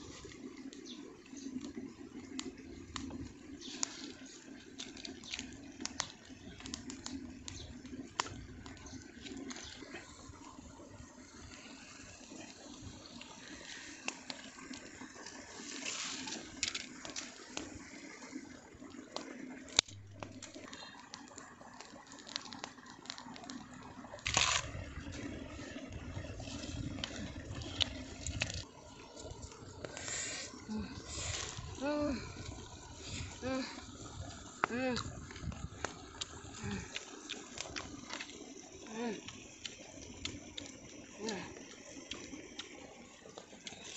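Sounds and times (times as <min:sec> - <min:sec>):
stream water running: 0:00.0 - 0:43.9
wood fire crackling: 0:00.0 - 0:43.9.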